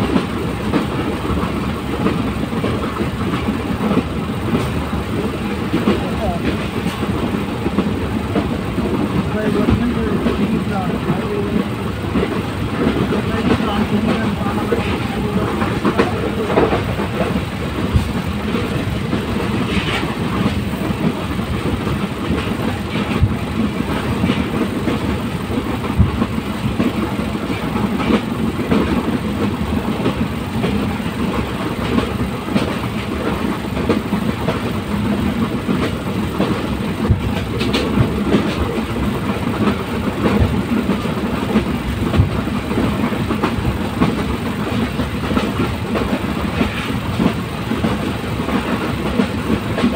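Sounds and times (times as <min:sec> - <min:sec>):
train rumbling: 0:00.0 - 0:49.9
wheels clicking on track: 0:00.0 - 0:49.9.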